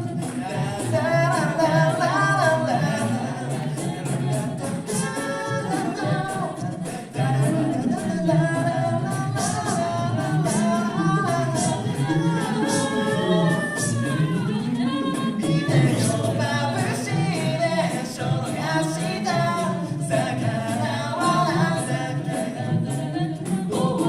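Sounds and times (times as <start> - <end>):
sharp rhythmic beat: 0.0 - 24.0
vocal group singing harmony: 0.0 - 24.0.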